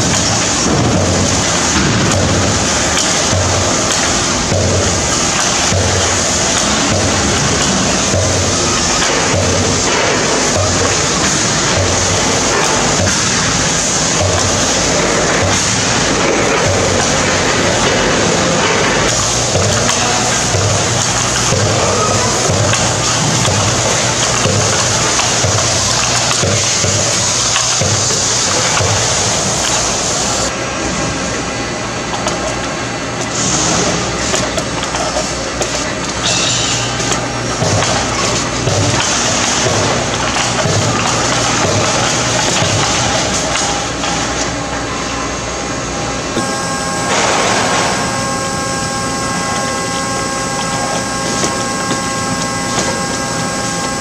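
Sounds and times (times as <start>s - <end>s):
capping machine clatter and hum: 0.0s - 54.0s
whining motors and belts: 0.0s - 54.0s.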